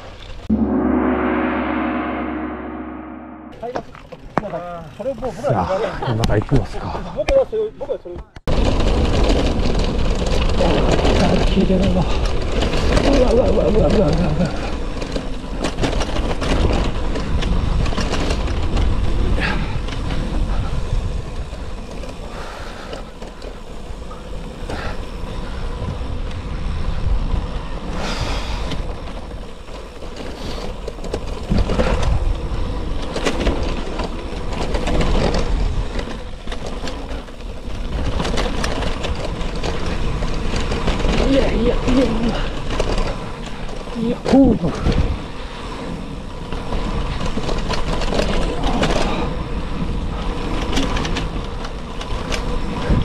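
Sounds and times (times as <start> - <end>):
bike rattling over bumps: 8.5 - 53.0.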